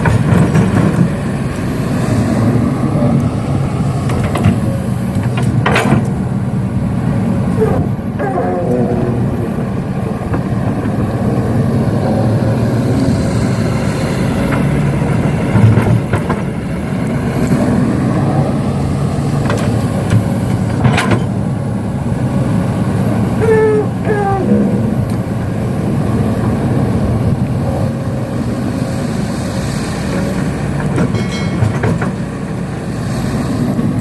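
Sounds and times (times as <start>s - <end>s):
diesel engines rumbling: 0.0s - 34.0s.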